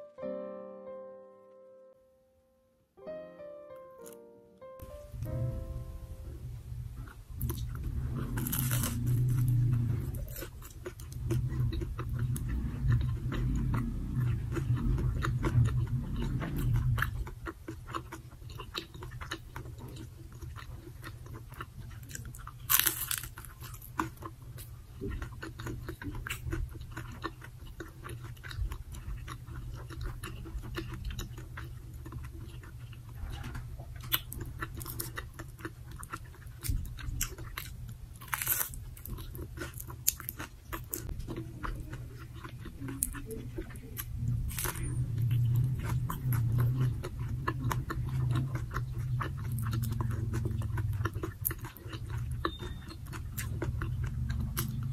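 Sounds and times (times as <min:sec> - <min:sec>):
chewing with crisp crackles: 0:06.9 - 0:54.9.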